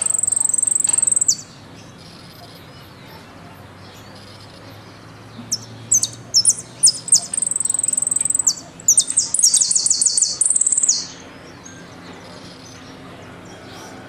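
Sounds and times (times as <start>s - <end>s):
finch singing trills: 0.0s - 14.0s.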